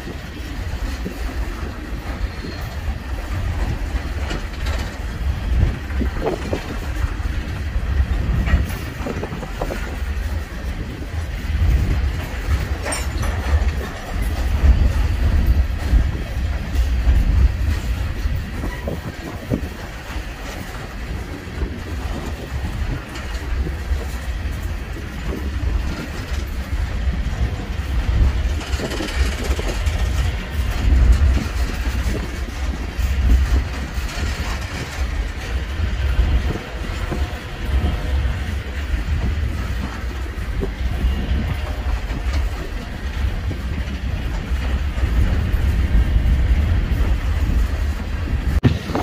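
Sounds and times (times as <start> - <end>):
freight train rumbling on rails: 0.0 - 49.0.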